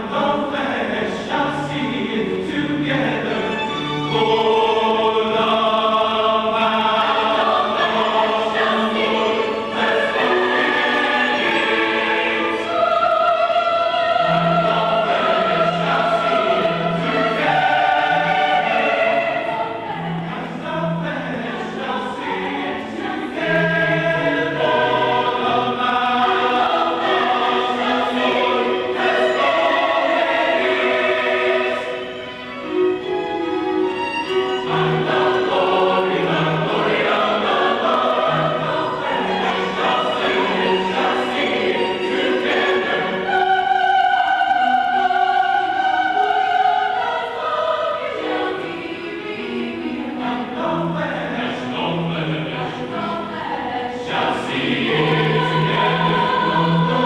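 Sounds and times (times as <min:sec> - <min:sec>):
choir singing sacred music: 0:00.0 - 0:57.0.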